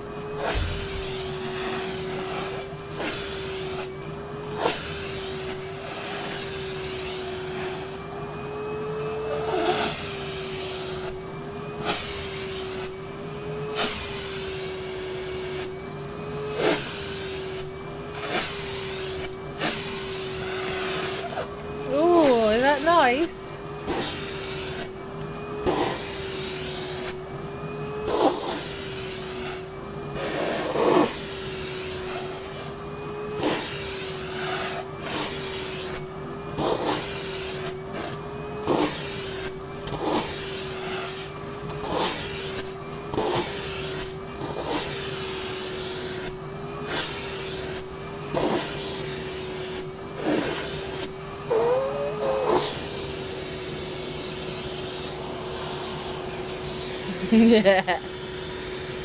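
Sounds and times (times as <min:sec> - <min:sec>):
vacuum cleaner humming: 0:00.0 - 0:59.0.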